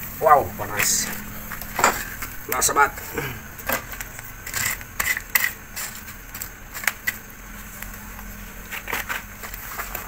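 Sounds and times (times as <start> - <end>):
clicks in charcoal embers: 0.6 - 10.0.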